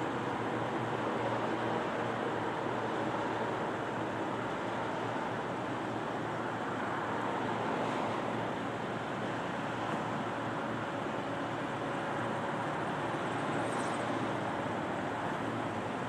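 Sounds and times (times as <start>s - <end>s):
distant highway traffic: 0.0s - 16.0s.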